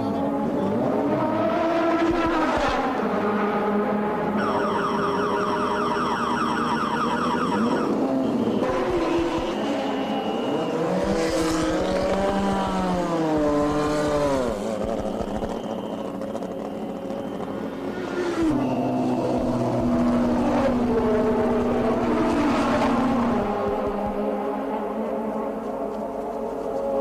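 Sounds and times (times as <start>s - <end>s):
racing car engine at high revs: 0.0s - 27.0s.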